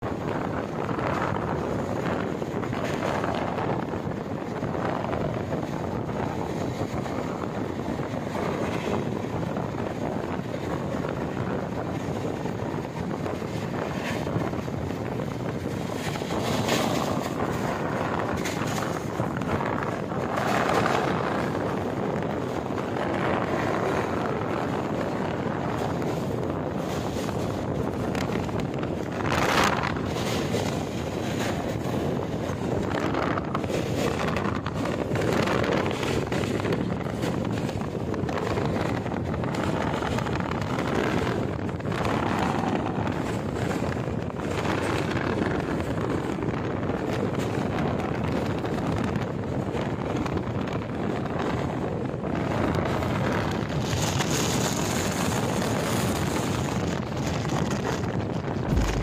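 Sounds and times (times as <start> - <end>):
train clatters: 0.0 - 59.0
train wheels rushing on rails: 0.0 - 59.0
wind buffeting microphone: 0.0 - 59.0.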